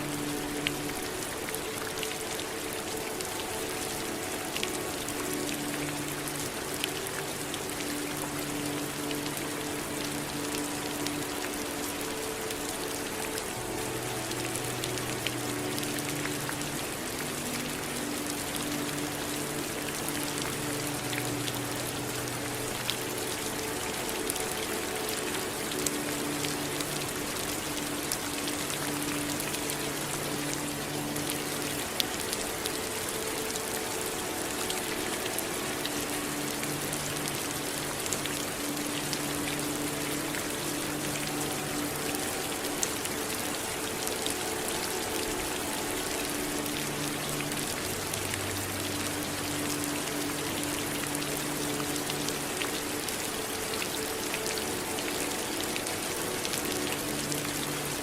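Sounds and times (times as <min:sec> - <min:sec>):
soft low drone: 0:00.0 - 0:58.0
steady rain: 0:00.0 - 0:58.0.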